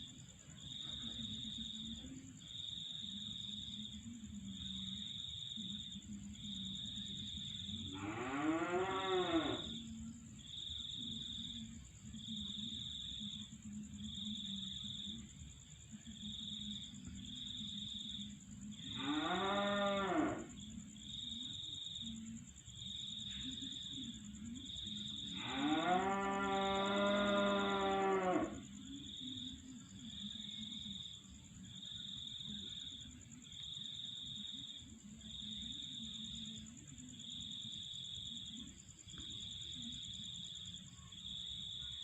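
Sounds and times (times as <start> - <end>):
high insect drone: 0.0 - 42.0
insects chirping: 0.0 - 42.0.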